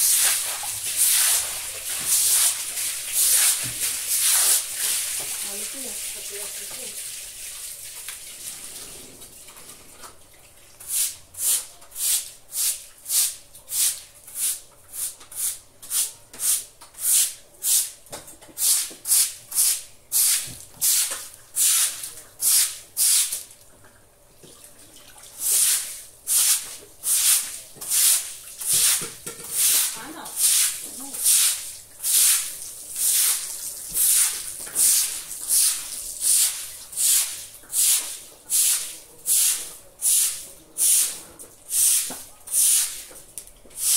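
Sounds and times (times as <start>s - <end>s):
broom scrubbing wet concrete: 0.0s - 8.8s, 10.8s - 18.0s, 18.6s - 23.5s, 25.4s - 43.2s.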